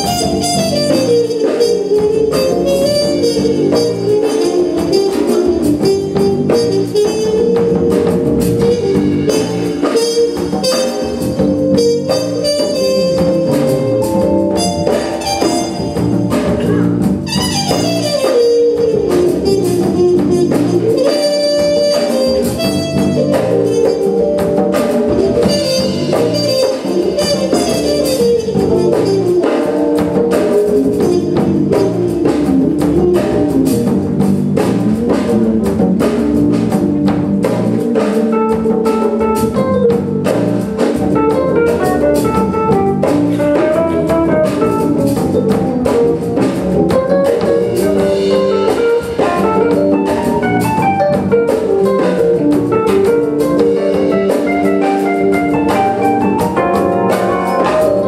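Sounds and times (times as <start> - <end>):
big band playing live: 0.0 - 58.0
steady drum strokes: 0.0 - 58.0.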